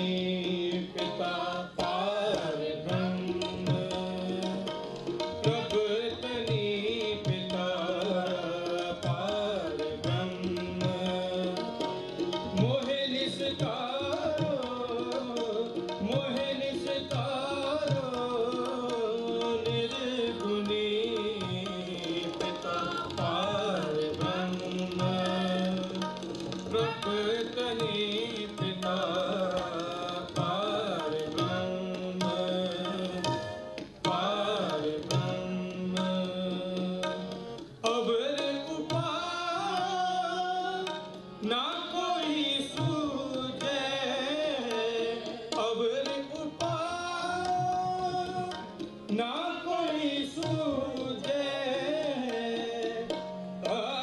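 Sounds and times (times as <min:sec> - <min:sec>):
harmonium: 0:00.0 - 0:54.0
tabla playing a busy rhythm: 0:00.0 - 0:54.0.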